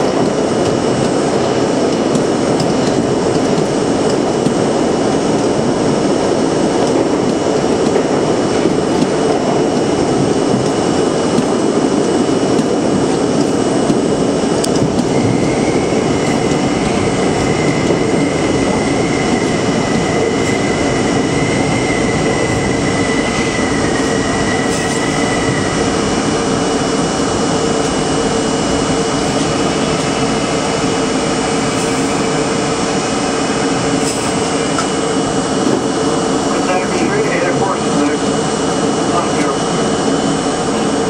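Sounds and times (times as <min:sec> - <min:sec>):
subway train rumbling in tunnel: 0:00.0 - 0:41.0.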